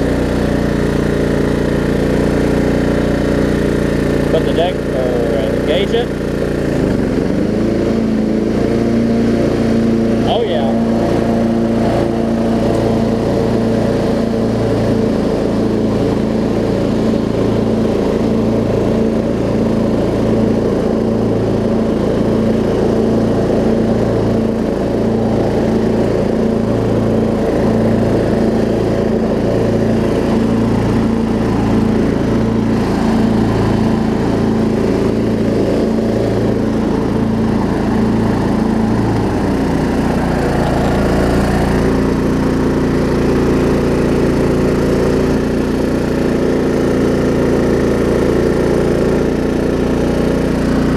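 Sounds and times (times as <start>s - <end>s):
riding mower engine running: 0.0s - 50.9s.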